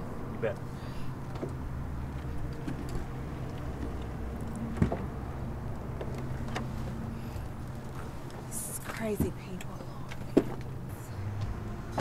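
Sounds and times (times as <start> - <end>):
car humming: 0.0 - 12.0.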